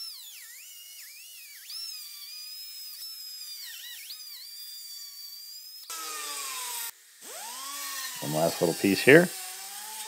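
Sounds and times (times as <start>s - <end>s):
cut-off wheel cutting sheet steel: 0.0s - 10.0s.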